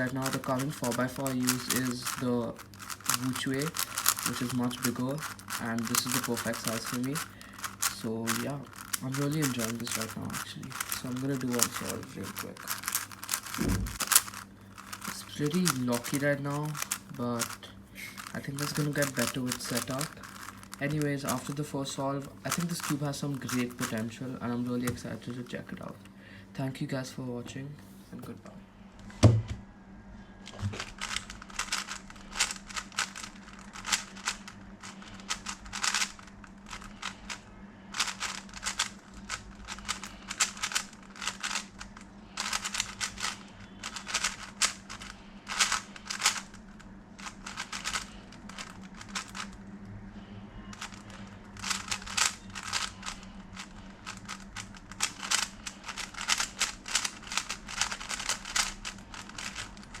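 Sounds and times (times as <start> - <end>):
plastic puzzle cube clacking: 0.0 - 21.6, 22.2 - 25.1, 30.8 - 46.6, 47.2 - 49.5, 50.7 - 60.0.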